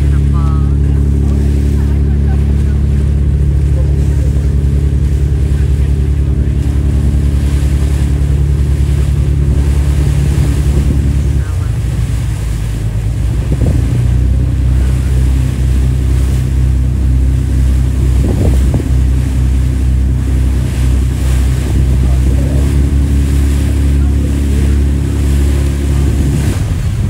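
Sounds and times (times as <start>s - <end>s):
boat engine humming: 0.0s - 27.0s
water rushing past hull: 0.0s - 27.0s
wind buffeting microphone: 0.0s - 27.0s.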